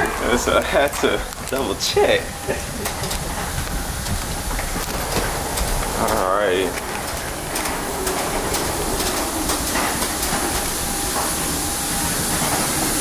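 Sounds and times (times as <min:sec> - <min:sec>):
airliner cabin air rushing: 0:00.0 - 0:13.0.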